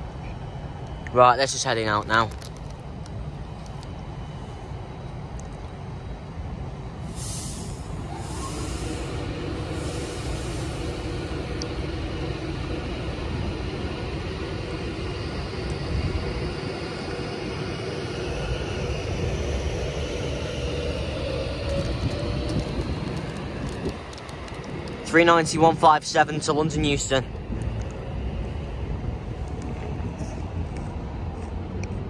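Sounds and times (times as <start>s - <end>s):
train motor hum: 0.0s - 32.0s
train wheels rumbling on rail: 0.0s - 32.0s.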